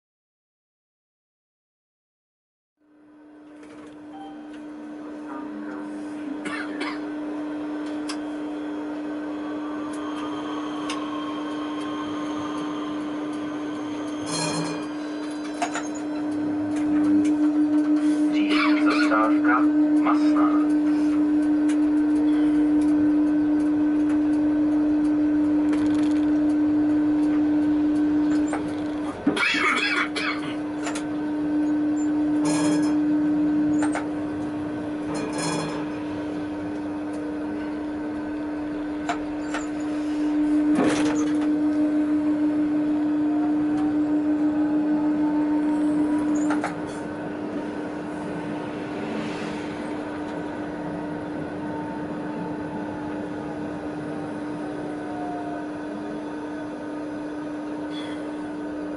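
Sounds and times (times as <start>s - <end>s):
faint rising whine: 2.8s - 29.3s, 30.8s - 58.9s
tram electric hum: 2.8s - 58.9s.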